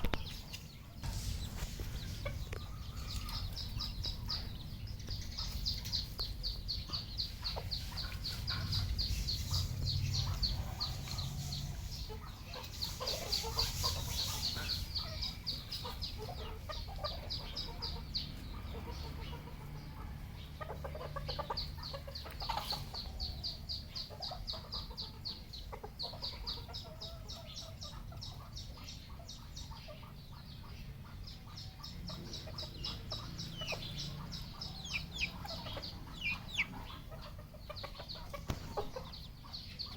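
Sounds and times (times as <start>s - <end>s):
junglefowl clucking: 0.0s - 39.9s.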